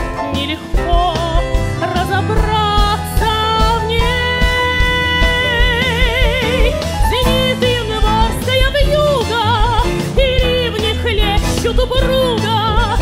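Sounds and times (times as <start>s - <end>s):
double bass: 0.0s - 13.0s
drums: 0.0s - 13.0s
woman singing with vibrato: 0.0s - 13.0s.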